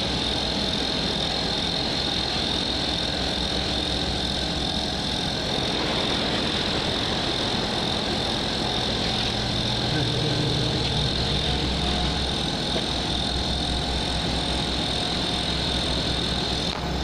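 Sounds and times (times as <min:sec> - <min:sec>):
motor running steadily: 0:00.0 - 0:17.0.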